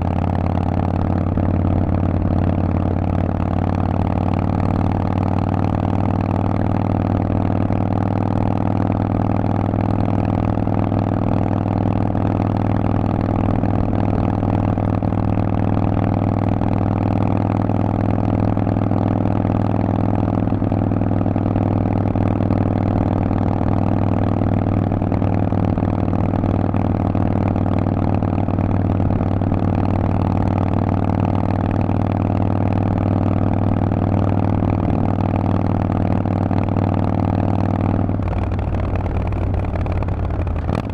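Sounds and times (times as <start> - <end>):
motorcycle engine through loud exhaust: 0.0 - 40.9.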